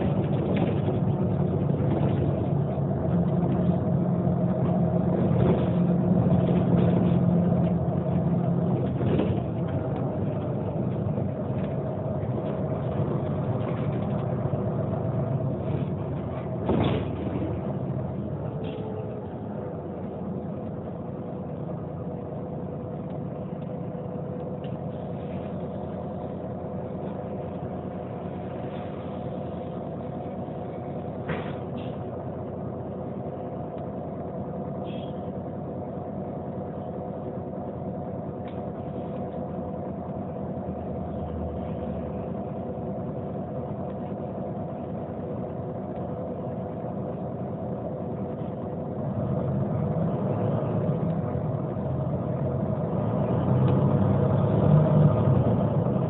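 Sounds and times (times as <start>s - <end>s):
diesel bus engine idling: 0.0s - 56.0s.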